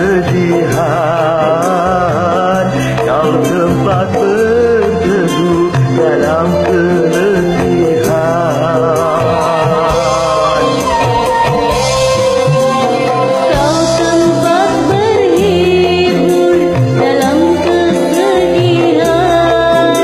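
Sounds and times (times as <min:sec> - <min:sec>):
karaoke backing track with bass: 0:00.0 - 0:20.0
woman singing: 0:00.0 - 0:20.0.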